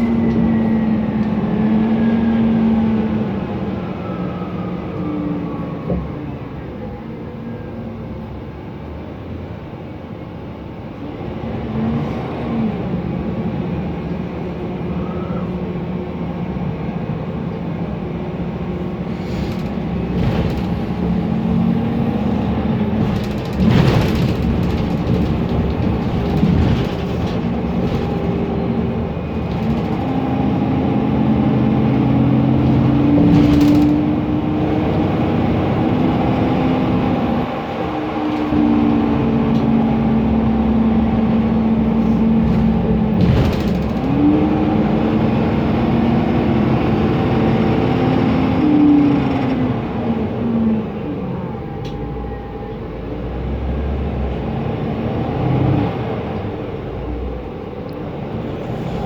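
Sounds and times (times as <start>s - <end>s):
bus engine accelerating: 0.0s - 59.0s.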